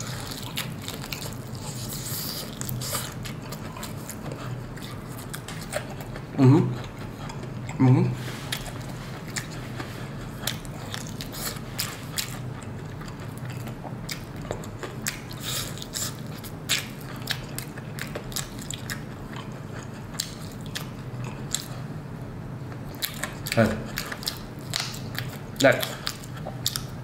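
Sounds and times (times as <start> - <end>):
crunchy fried chicken chewing: 0.0 - 7.8, 8.4 - 22.0, 22.7 - 27.0.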